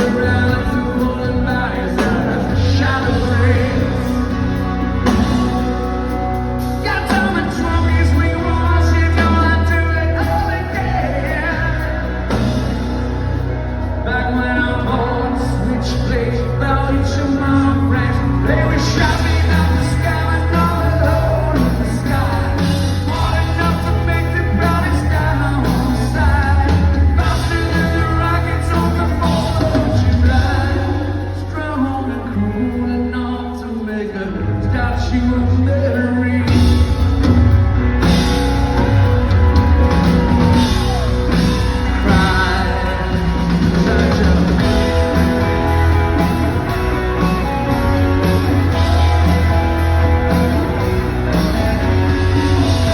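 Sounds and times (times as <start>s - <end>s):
live rock band playing: 0.0s - 52.9s
man singing: 0.0s - 52.9s.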